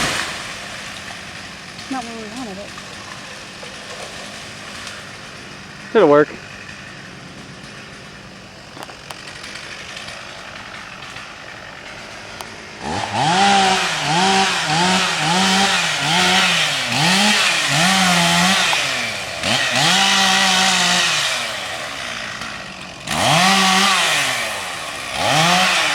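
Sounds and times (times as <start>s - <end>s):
chainsaw revving: 0.0s - 25.9s.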